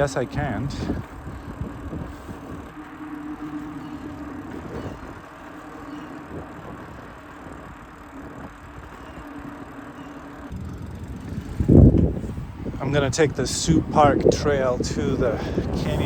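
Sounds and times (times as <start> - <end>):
electric motor hum: 0.0 - 14.3
tyres rumbling: 0.0 - 16.0
wind buffeting microphone: 0.0 - 16.0.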